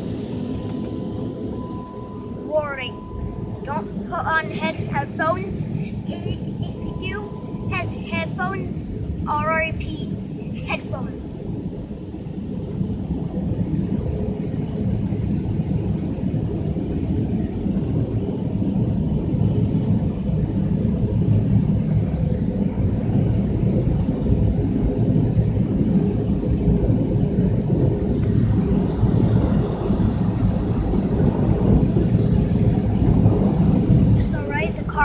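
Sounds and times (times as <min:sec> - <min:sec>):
car wash machinery rumbling: 0:00.0 - 0:35.0.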